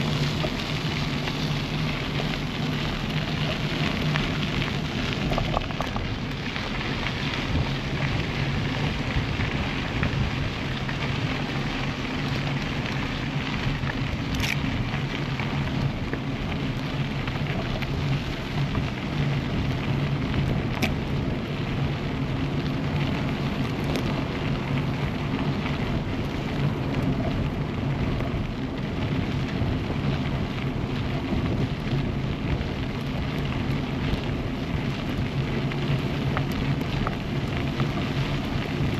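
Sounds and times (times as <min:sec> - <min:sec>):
bicycle tyres rolling: 0:00.0 - 0:38.9.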